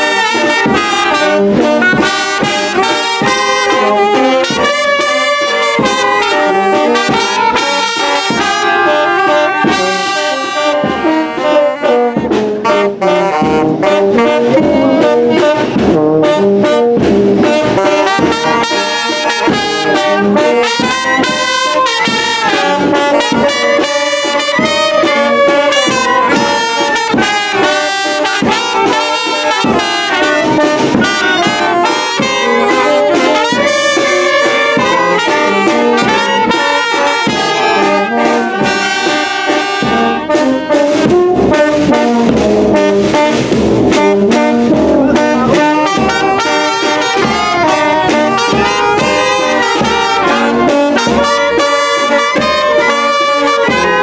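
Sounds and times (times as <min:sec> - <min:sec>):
wind band playing: 0:00.0 - 0:54.0.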